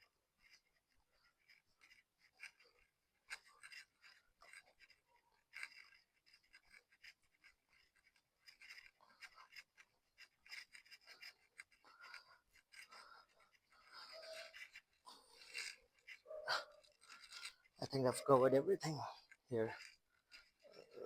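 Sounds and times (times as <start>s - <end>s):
cloth rubbing a chain: 0.0s - 21.0s.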